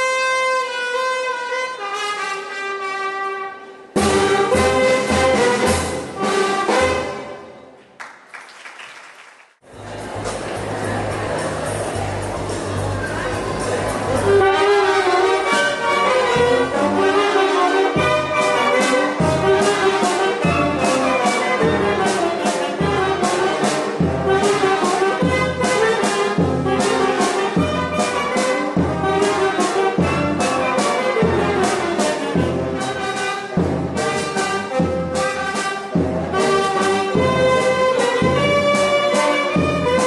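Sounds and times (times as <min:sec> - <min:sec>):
concert band playing: 0:03.6 - 0:07.6, 0:09.7 - 0:40.0.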